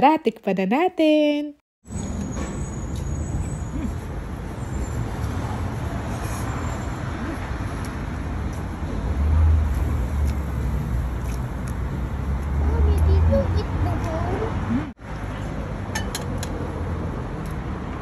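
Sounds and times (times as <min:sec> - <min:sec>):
passing vehicles rumbling: 0:01.9 - 0:18.0.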